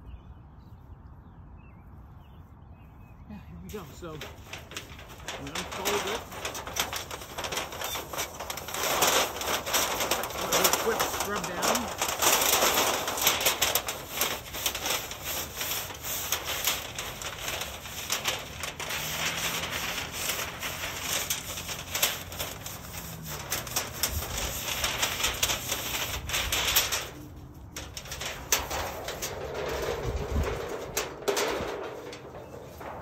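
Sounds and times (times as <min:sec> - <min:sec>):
metal stovepipe crinkling and scraping: 0:03.7 - 0:33.0.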